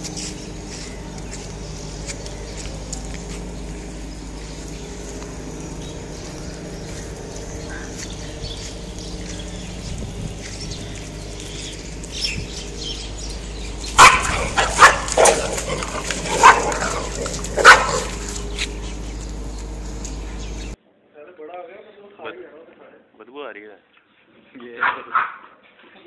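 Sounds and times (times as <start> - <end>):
dogs barking: 0.0 - 20.8, 24.8 - 25.6.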